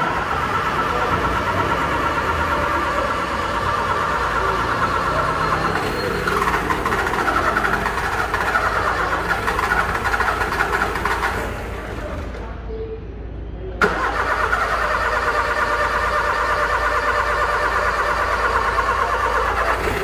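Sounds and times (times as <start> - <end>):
car starter clicking rapidly: 0.0 - 11.9, 13.8 - 20.0.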